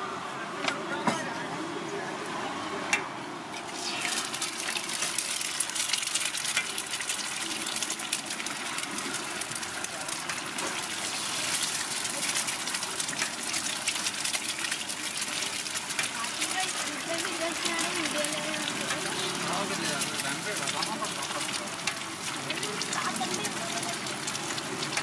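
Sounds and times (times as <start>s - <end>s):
eggs sizzling on a griddle: 3.5s - 25.0s.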